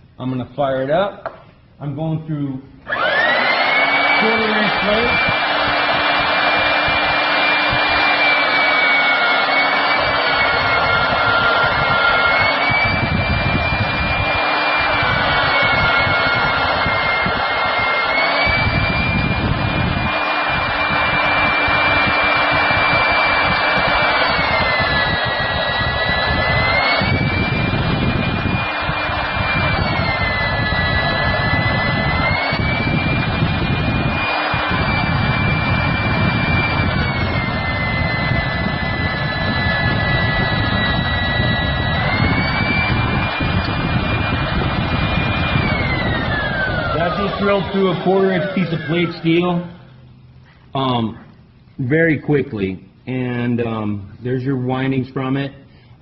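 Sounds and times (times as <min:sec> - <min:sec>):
drill motor whining through steel: 0:02.9 - 0:51.0.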